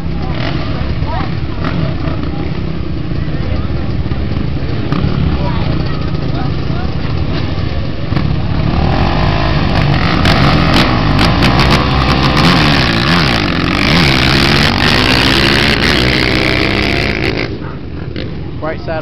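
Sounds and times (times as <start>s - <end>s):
atv engines revving: 0.0s - 19.0s.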